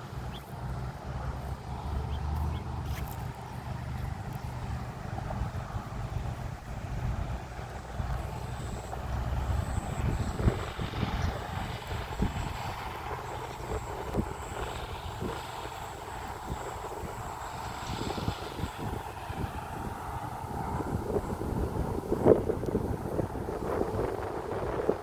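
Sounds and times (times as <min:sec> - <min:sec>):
diesel locomotive rumble: 0:00.0 - 0:25.0.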